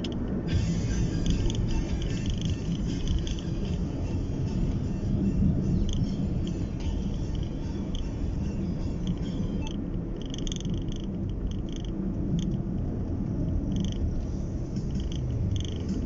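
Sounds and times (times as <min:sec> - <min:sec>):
engine and road noise rumble: 0:00.0 - 0:16.0.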